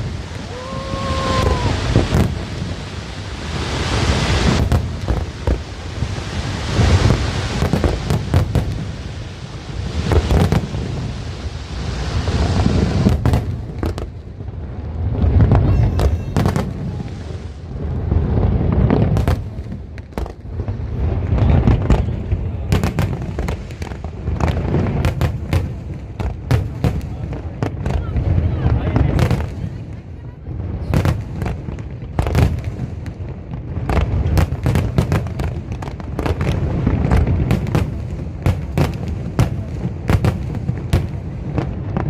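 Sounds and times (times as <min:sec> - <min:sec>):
low rolling rumble: 0:00.0 - 0:34.6
fireworks bangs and crackles: 0:00.0 - 0:42.0.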